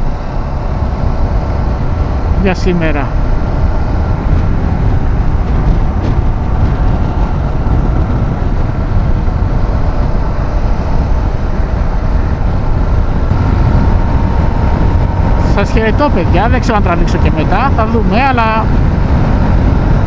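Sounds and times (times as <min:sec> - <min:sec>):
motorcycle engine hum: 0:00.0 - 0:20.0
wind buffeting microphone: 0:00.0 - 0:20.0.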